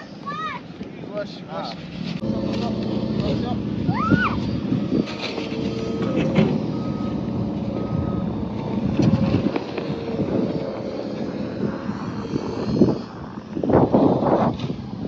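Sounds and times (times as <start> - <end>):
heavy vehicle engine running: 2.2 - 15.0
reversing alarm beeping: 2.2 - 15.0.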